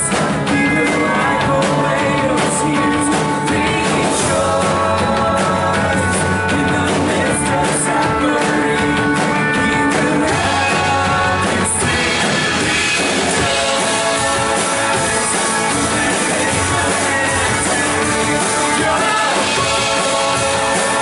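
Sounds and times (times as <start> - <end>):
person singing: 0.0 - 21.0
rock band playing: 0.0 - 21.0.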